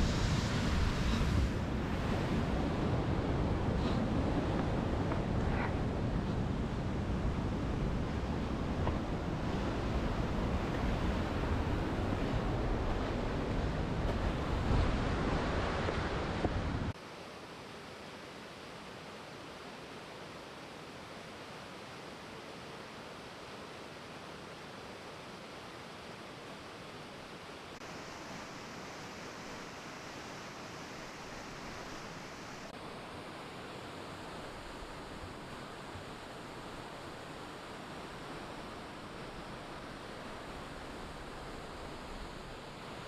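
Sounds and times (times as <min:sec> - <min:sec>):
running meltwater rushing: 0:08.1 - 0:43.0.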